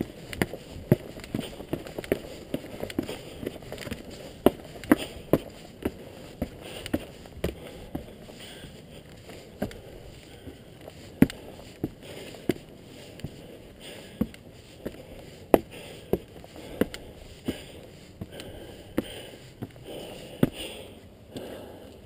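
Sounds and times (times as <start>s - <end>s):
footsteps on stone stairs: 0.0s - 20.8s
person breathing: 0.2s - 22.0s.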